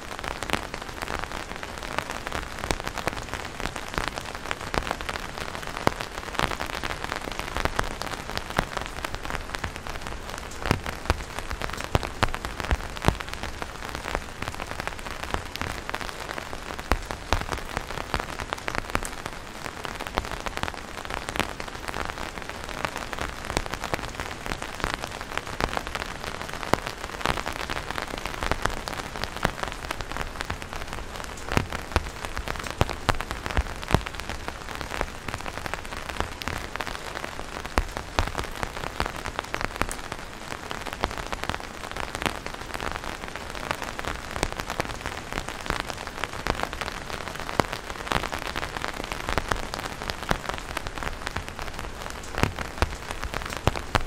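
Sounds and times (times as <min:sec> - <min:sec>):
rain on an umbrella: 0:00.0 - 0:54.0.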